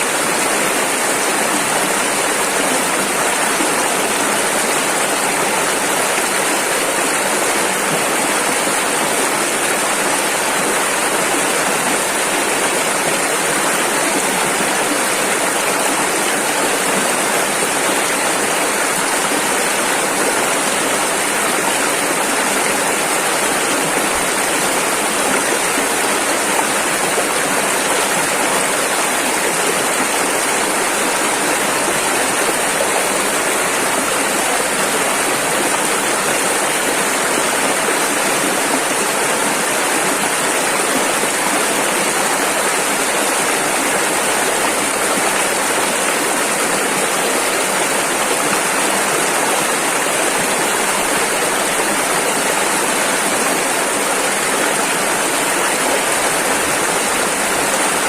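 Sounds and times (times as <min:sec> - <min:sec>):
rushing river: 0:00.0 - 0:58.0.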